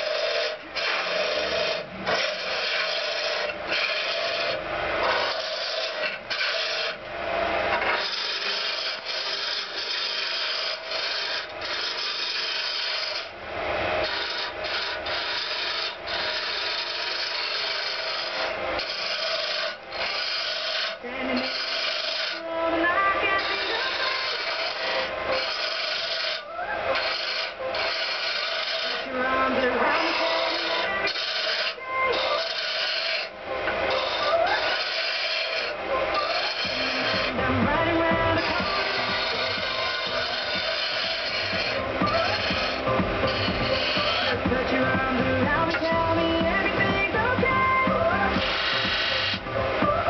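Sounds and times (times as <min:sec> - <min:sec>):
tool cutting wood on lathe: 0:00.0 - 0:50.0.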